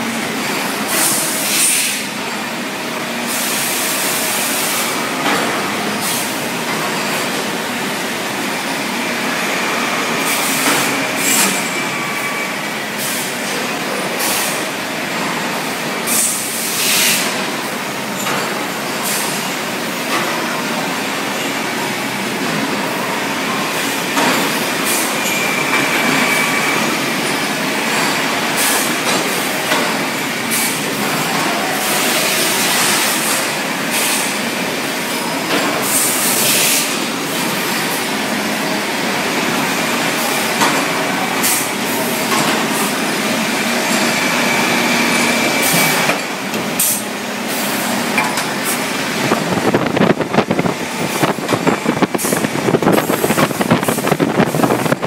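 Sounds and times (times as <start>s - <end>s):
factory machines running: 0.0s - 55.0s.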